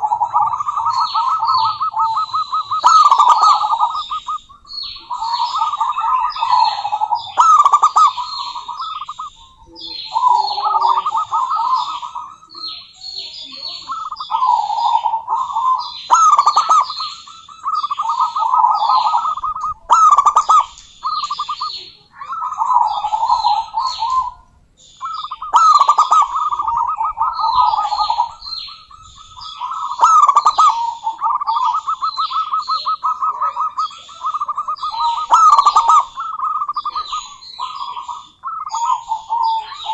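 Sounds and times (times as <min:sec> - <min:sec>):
doves cooing: 0:00.0 - 0:39.9
higher chirping: 0:00.0 - 0:39.9.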